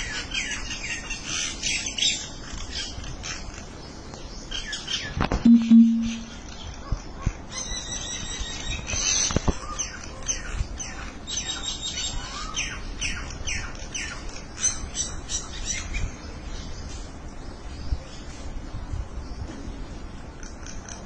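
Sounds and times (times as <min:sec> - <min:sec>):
birds squawking and chattering: 0:00.0 - 0:05.4, 0:06.2 - 0:21.0.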